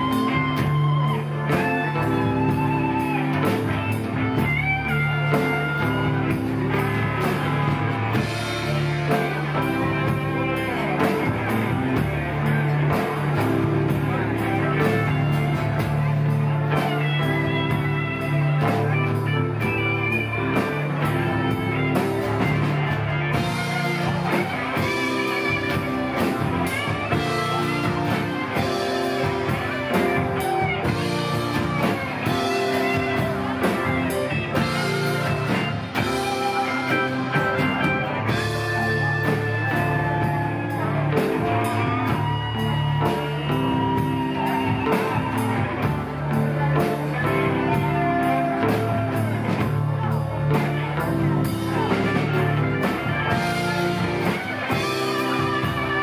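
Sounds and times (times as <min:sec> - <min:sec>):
electric guitar: 0:00.0 - 0:56.0
rock band playing: 0:00.0 - 0:56.0.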